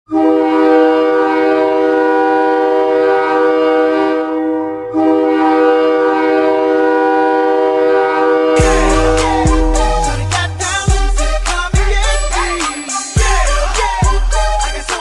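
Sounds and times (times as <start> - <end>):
goal horn blasts: 0.1 - 15.0.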